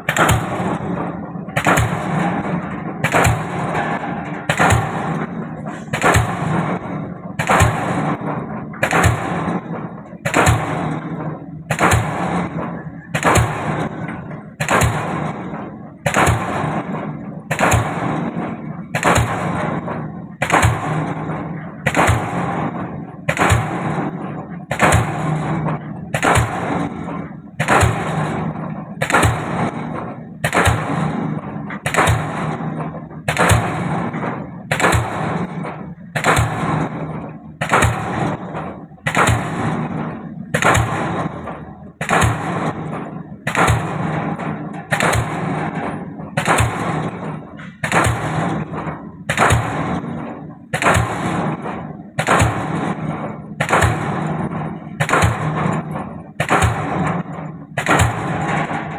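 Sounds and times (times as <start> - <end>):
pile hammer banging: 0.0 - 58.9.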